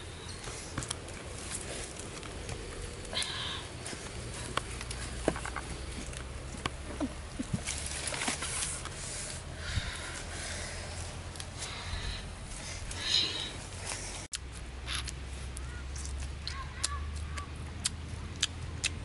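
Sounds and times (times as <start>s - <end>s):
leaves and twigs rustling: 0.0s - 17.4s
small wood fire: 0.0s - 19.0s.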